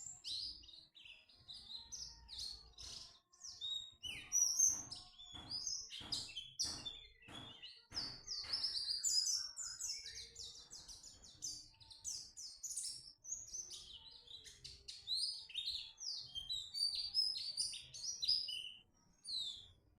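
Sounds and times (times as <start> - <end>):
bird singing high warbling song: 0.0 - 20.0.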